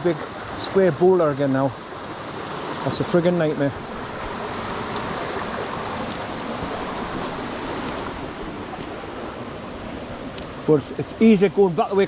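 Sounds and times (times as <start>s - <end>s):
stream water rushing: 0.0s - 12.0s
waterfall: 0.0s - 12.0s.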